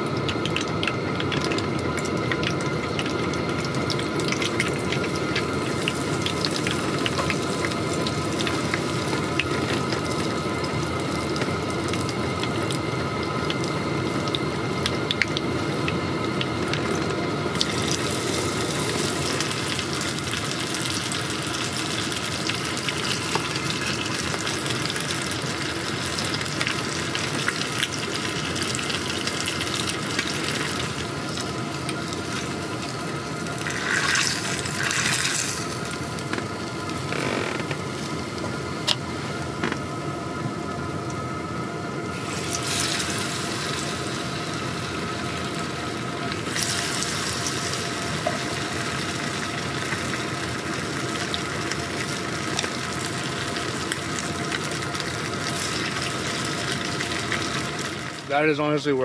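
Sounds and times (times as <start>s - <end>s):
fish deep-frying in oil: 0.0s - 59.0s.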